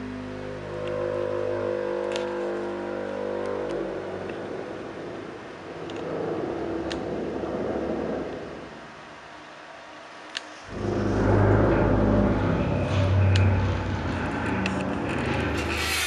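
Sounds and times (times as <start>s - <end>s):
electronic drone of held tones: 0.0s - 8.8s, 10.7s - 15.9s
rough noisy hum: 0.0s - 16.0s.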